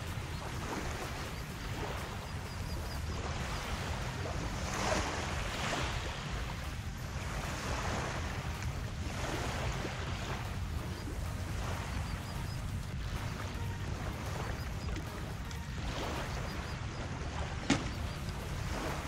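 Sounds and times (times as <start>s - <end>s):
small waves lapping: 0.0s - 19.0s
wind rumbling on microphone: 0.0s - 19.0s.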